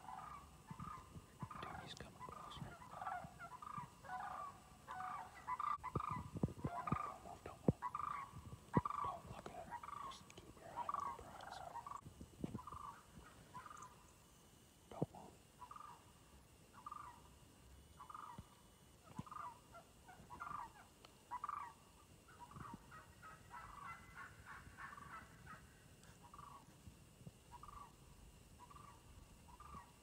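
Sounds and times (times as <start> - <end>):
faint wild turkey calls: 0.0 - 30.0.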